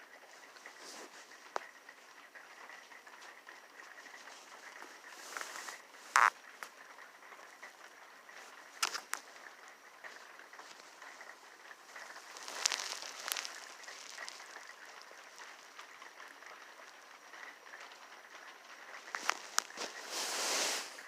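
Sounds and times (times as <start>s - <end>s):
rain drops ticking on surfaces: 0.0s - 21.0s
steady rain: 0.0s - 21.0s.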